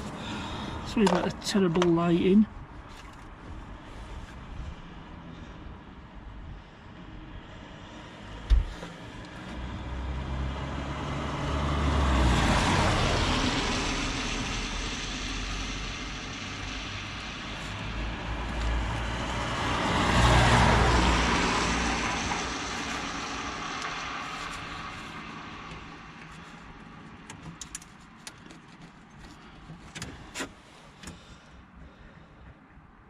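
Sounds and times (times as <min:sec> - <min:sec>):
vehicles passing on road: 0:00.0 - 0:33.0.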